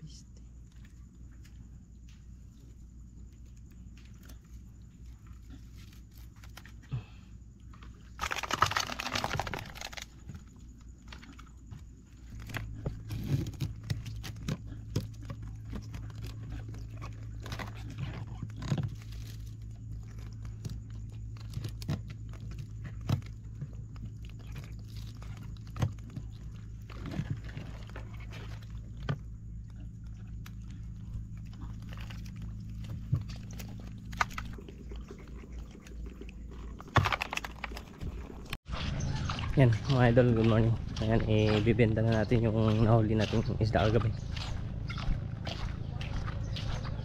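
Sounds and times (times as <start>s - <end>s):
low steady hum: 0.0s - 47.0s
crabs clicking and scraping: 0.5s - 47.0s.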